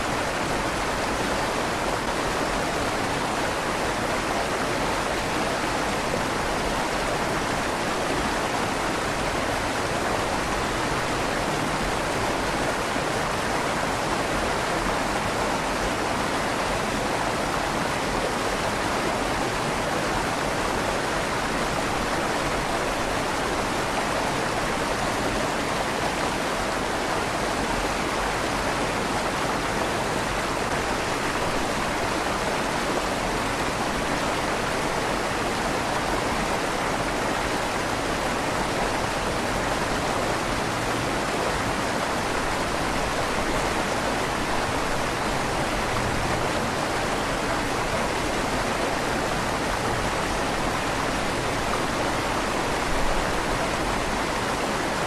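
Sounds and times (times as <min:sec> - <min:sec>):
river water rushing through tunnel: 0:00.0 - 0:55.0.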